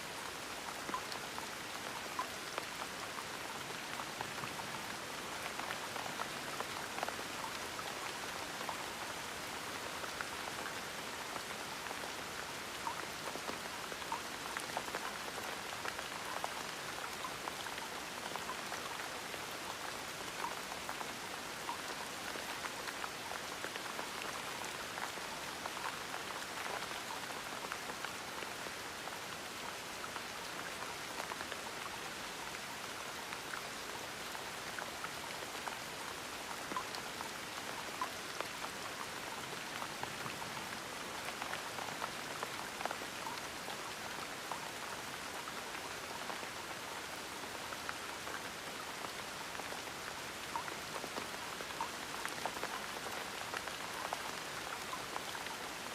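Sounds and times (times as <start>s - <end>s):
gentle rain pattering: 0.0s - 55.9s.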